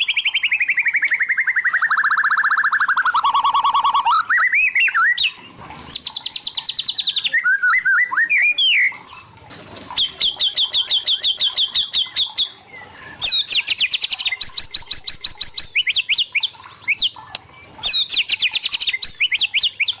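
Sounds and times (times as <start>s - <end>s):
bird singing whistled trills: 0.0s - 9.0s, 10.0s - 17.2s, 17.8s - 20.0s.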